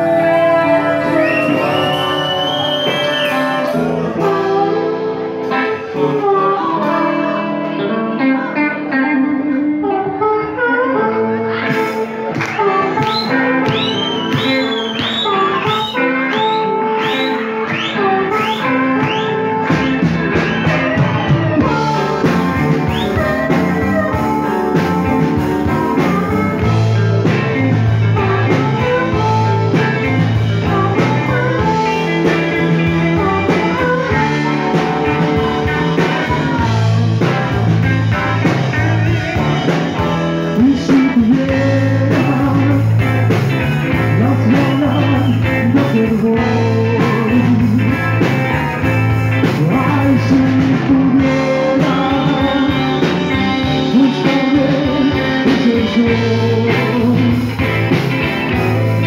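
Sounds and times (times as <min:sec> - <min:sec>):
bass guitar: 0:00.0 - 0:59.0
drums: 0:00.0 - 0:59.0
electric guitars: 0:00.0 - 0:59.0.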